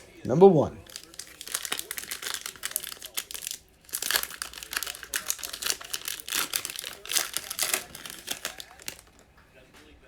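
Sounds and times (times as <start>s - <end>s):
plastic wrapping crinkling and tearing: 0.8s - 9.3s.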